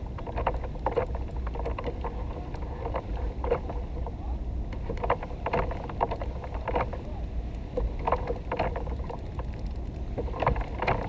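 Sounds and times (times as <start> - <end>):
water lapping against kayak hull: 0.0 - 11.0
wind rumble on microphone: 0.0 - 11.0.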